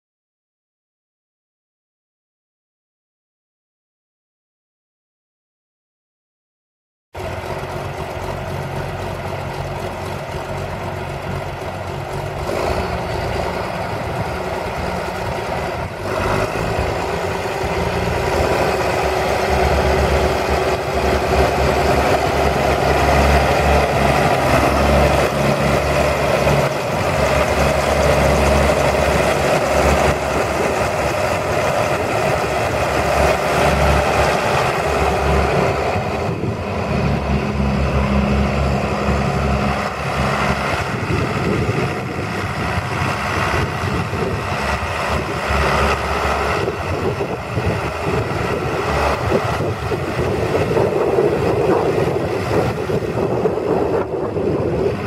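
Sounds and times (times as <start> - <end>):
tractor diesel engine running: 7.2 - 55.0.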